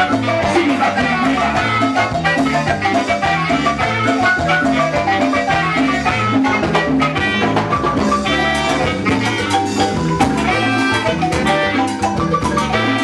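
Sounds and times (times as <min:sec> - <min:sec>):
live dance band playing: 0:00.0 - 0:13.0.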